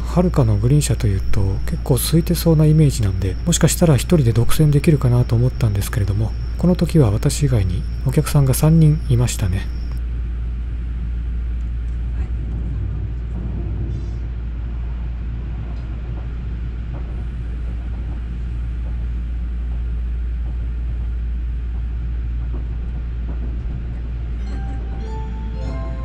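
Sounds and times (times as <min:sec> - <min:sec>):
train wheels rumbling on rails: 0:00.0 - 0:10.0, 0:11.7 - 0:26.0.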